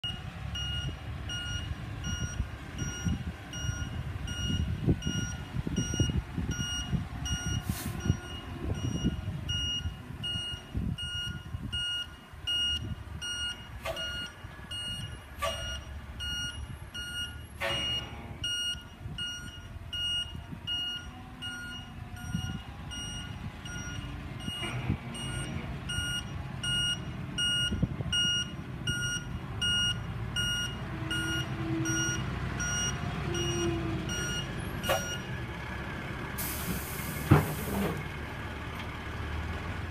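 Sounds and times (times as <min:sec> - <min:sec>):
diesel engine rumble: 0:00.0 - 0:39.9
truck reversing alarm beeping: 0:00.0 - 0:39.9.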